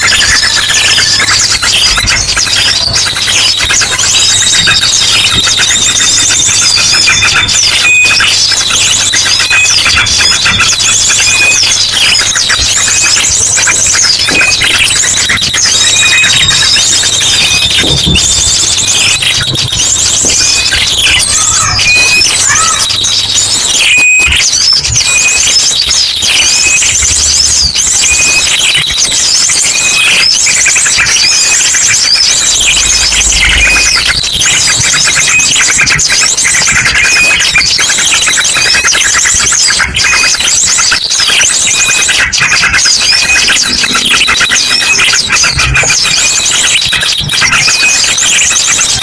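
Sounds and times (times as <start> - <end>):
rapid repeated bird trills: 0.0 - 49.0
small birds chirping and whistling: 0.0 - 49.0.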